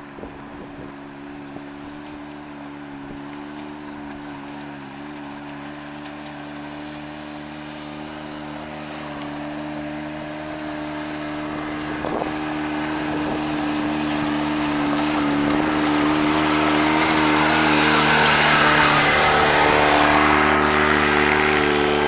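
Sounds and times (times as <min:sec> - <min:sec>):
approaching engine: 0:00.0 - 0:22.0
engine idling: 0:00.0 - 0:22.0.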